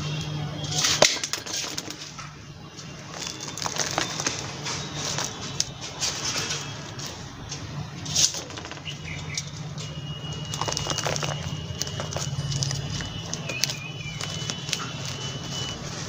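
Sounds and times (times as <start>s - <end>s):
potting mix crunching: 0.2s - 16.0s.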